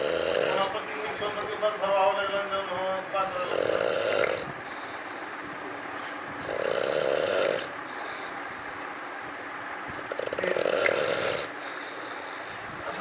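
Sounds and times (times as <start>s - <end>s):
person snoring with rattle: 0.0s - 5.2s, 6.4s - 9.3s, 10.0s - 12.5s.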